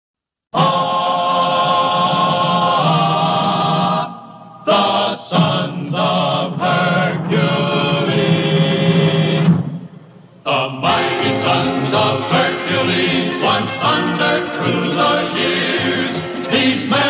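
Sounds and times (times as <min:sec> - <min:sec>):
choir singing: 0:00.6 - 0:09.8, 0:10.5 - 0:17.0.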